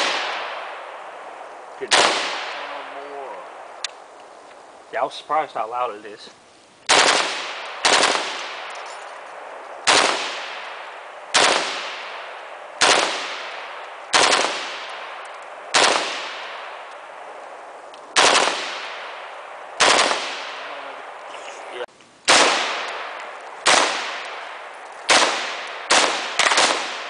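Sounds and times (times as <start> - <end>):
rifle shots with ringing echo: 0.0 - 3.8, 6.9 - 21.2, 22.3 - 27.0.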